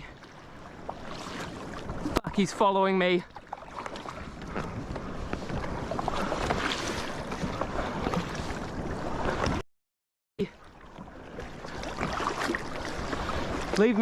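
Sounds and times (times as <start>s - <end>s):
paddle splashes: 0.0s - 9.6s, 10.4s - 14.0s
water splashing around kayak: 0.0s - 9.6s, 10.4s - 14.0s.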